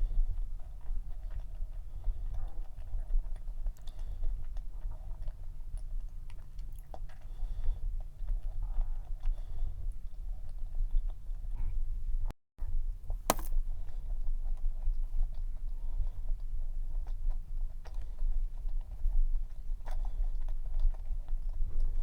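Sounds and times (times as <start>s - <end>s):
chewing cookie close up: 0.0s - 11.4s, 13.3s - 22.0s.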